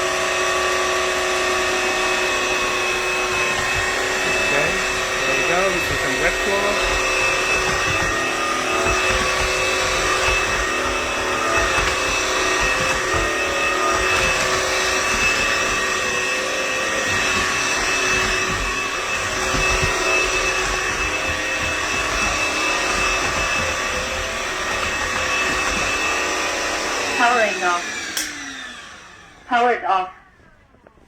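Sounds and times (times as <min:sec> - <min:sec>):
suction rush: 0:00.0 - 0:29.5
spinning roller brush: 0:00.0 - 0:29.6
vacuum mop motor whine: 0:00.0 - 0:31.0.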